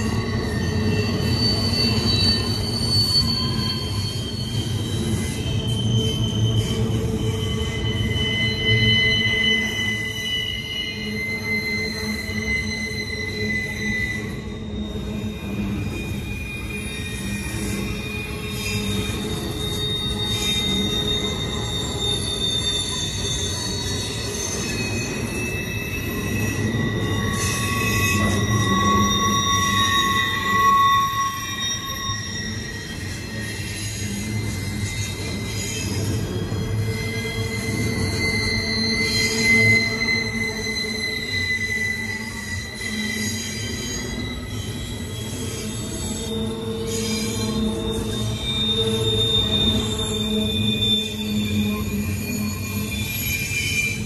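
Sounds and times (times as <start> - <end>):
freight train rumble: 0.0 - 54.0
high-pitched wheel squeal: 0.0 - 54.0.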